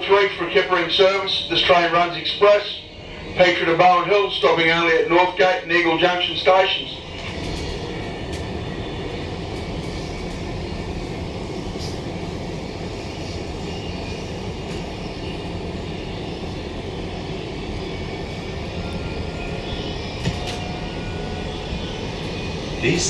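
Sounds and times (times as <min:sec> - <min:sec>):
train interior running noise: 0:00.0 - 0:23.0.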